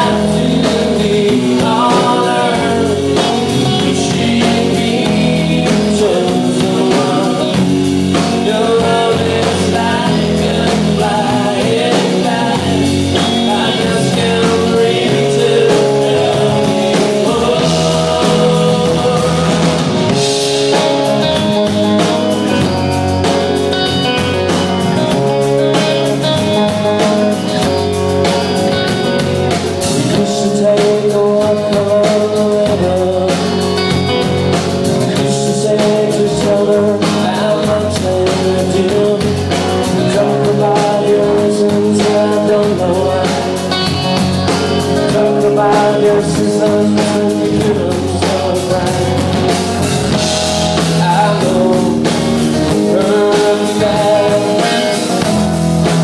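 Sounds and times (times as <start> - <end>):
man singing lead vocal: 0.0 - 23.4, 29.7 - 56.0
live rock band playing: 0.0 - 56.0.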